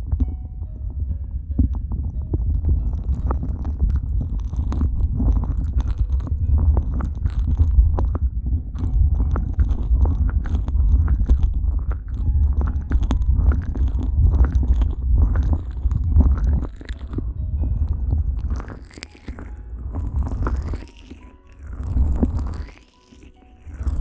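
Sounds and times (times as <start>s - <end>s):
fingers rubbing microphones: 0.0s - 24.0s
sticky clicks and squelches: 1.6s - 24.0s.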